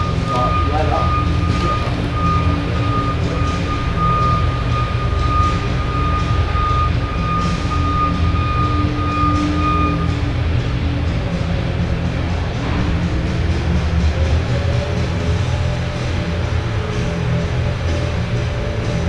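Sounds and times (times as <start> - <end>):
high-pitched whine: 0.0 - 19.0
ice resurfacer engine rumble: 0.0 - 19.0.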